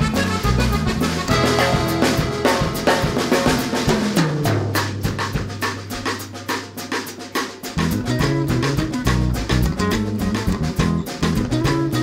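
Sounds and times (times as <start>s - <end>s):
bass line: 0.0s - 5.9s, 7.8s - 12.0s
steady drum beat: 0.0s - 12.0s.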